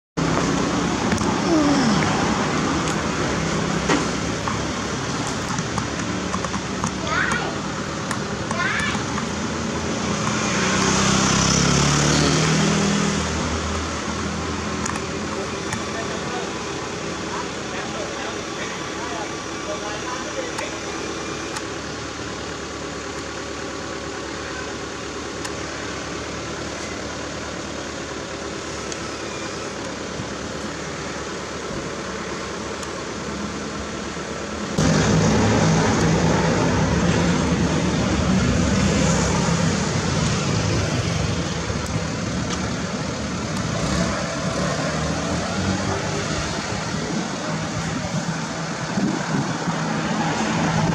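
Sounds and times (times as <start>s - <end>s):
truck engine idling: 0.2s - 10.4s, 13.3s - 50.9s.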